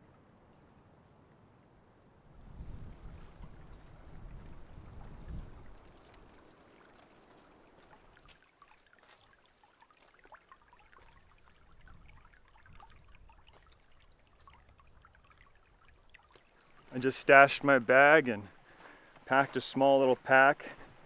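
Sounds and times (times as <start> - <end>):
stream trickling over sand: 2.3 - 21.0
water plinks: 2.9 - 21.0.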